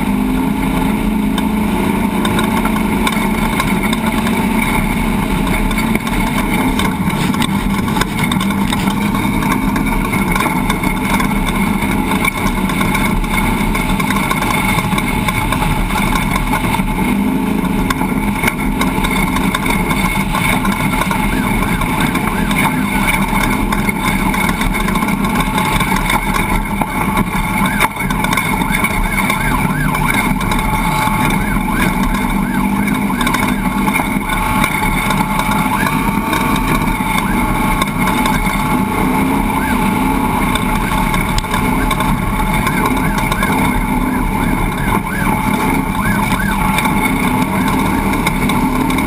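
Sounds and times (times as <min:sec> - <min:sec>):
low rumble: 0:00.0 - 0:49.0
mechanical drone with hum tones: 0:00.0 - 0:49.0.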